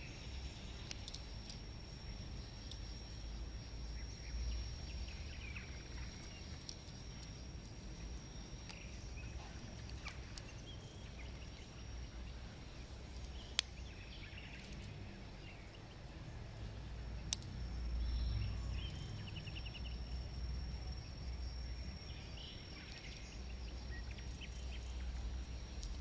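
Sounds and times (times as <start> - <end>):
bird chirps: 0.0 - 26.0
steady high whine: 0.0 - 26.0.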